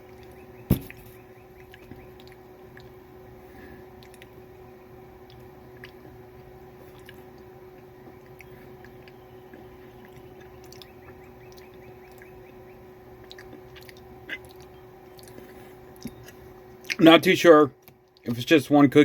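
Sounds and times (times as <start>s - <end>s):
crunchy chewing of cookie: 0.0s - 17.1s
steady low hum: 0.0s - 19.0s.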